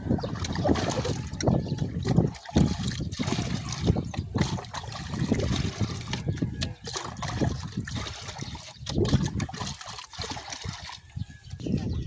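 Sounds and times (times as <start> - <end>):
water poured into plastic bucket: 0.0 - 11.8.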